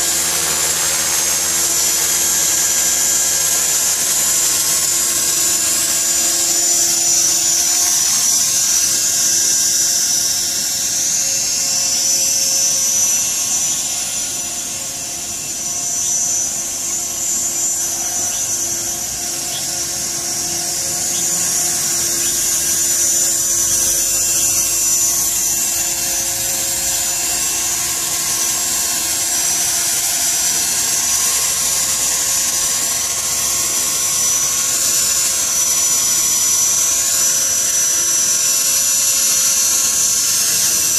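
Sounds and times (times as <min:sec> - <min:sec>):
rc helicopter motor whine: 0:00.0 - 0:40.9.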